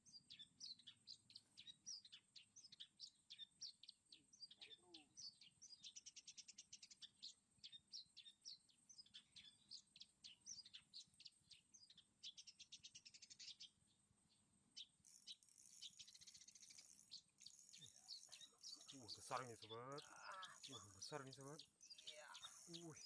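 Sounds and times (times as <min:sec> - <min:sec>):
bird singing chirps and trills: 0:00.0 - 0:23.0.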